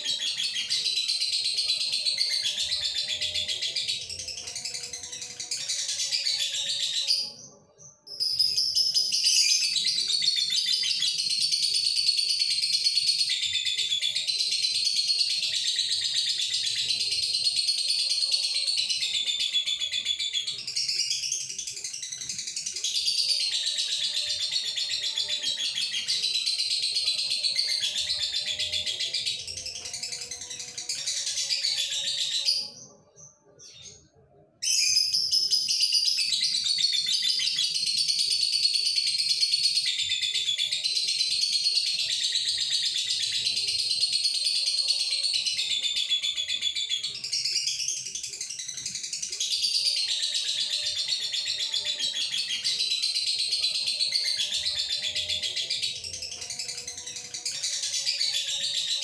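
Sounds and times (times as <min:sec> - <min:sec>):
lovebird singing high-pitched song: 0:00.0 - 0:59.0.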